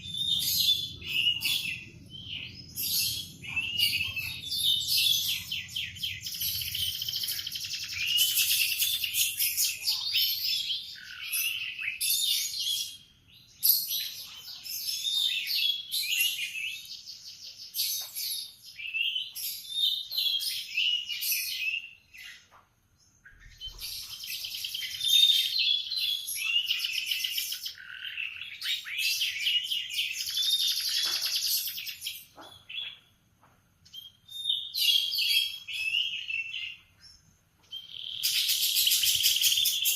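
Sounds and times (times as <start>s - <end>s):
canary singing trills: 0.0s - 33.2s, 33.8s - 39.9s.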